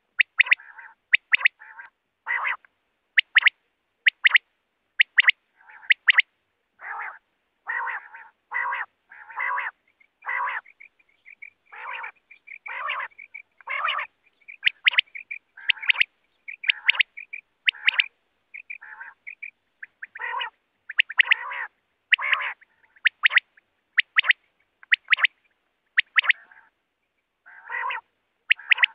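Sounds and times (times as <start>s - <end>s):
quail calling: 0.0s - 4.4s, 5.0s - 26.8s, 27.4s - 28.9s.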